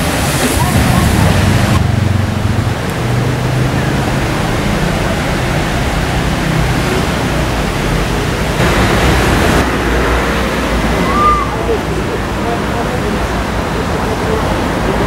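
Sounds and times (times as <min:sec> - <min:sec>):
loud rushing noise: 0:00.0 - 0:15.0.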